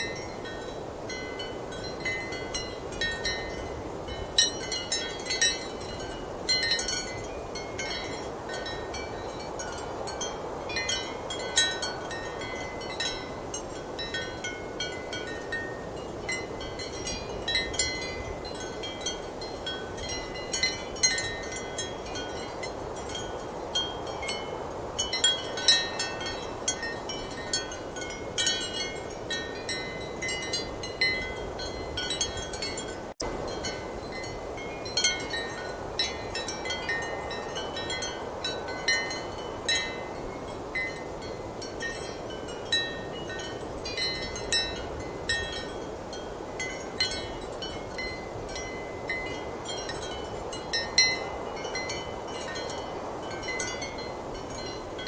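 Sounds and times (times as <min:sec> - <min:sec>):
ceramic wind chimes clinking: 0:00.0 - 0:55.0.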